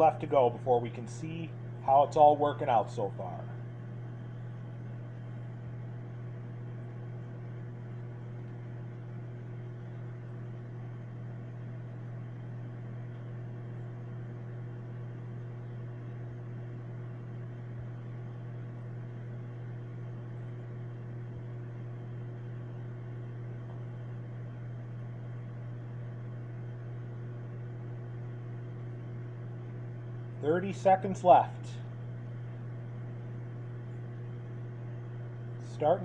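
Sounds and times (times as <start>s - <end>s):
microwave oven humming: 0.0s - 36.0s.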